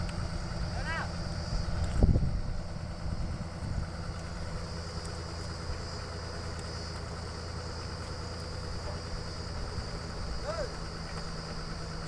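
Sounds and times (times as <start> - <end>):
drilling rig engine hum: 0.0 - 12.0
steady high whine: 0.0 - 12.0.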